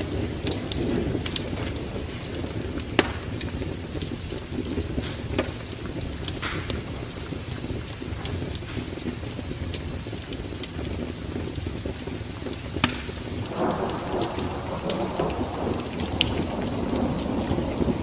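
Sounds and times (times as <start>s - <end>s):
fire crackling and popping: 0.0s - 18.0s
low rumble of fire: 0.0s - 18.0s.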